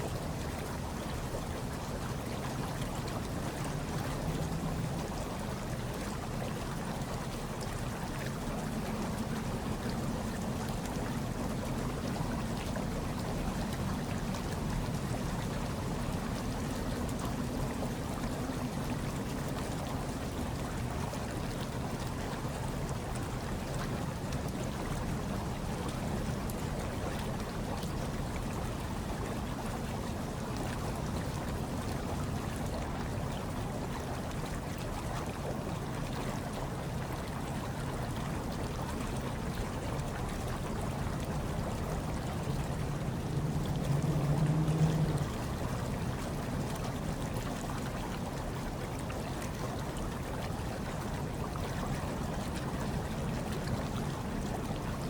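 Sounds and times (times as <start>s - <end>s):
hot tub water bubbling: 0.0s - 55.0s.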